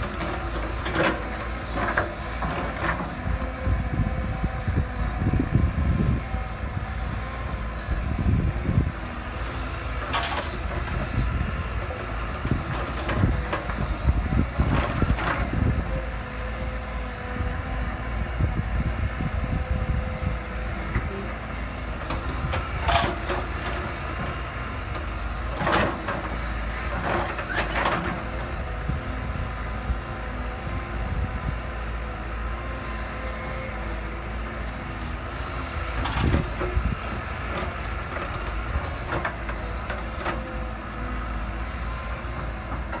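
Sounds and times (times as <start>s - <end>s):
heavy diesel machinery running: 0.0s - 43.0s.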